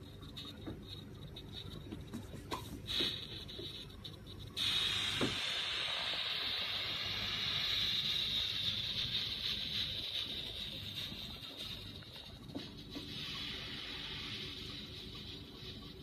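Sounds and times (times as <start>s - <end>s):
steam hissing: 0.0s - 16.0s.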